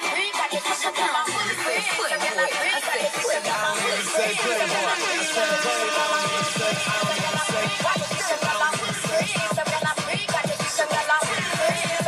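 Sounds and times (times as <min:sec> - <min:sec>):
electronic hip-hop music: 0:00.0 - 0:12.0.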